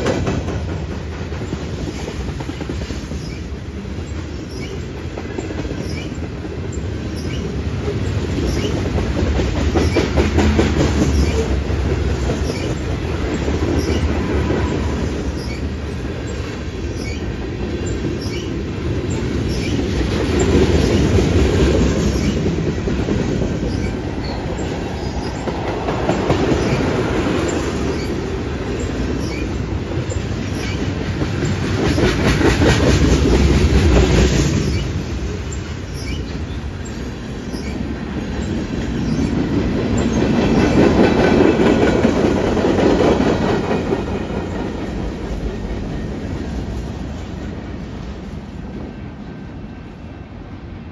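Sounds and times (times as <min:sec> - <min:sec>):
clickety-clack over rail joints: 0:00.0 - 0:49.8
freight train wheels rumbling: 0:00.0 - 0:50.9.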